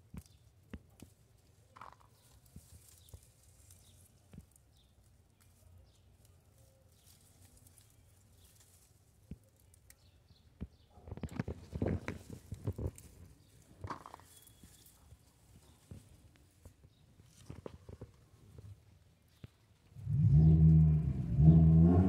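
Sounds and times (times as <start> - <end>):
leaves rustling: 0.2 - 10.2, 11.4 - 21.8.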